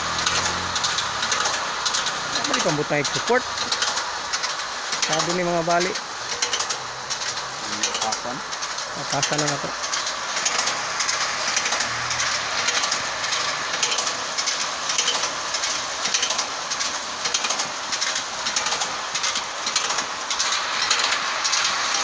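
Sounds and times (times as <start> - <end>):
trolleys clattering on cableway: 0.0 - 22.0.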